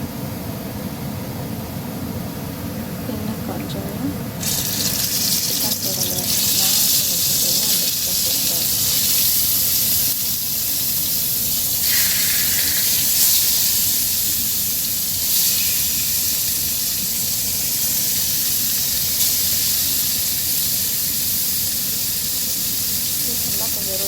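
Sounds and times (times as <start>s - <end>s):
chicken frying in hot oil: 4.4s - 24.0s.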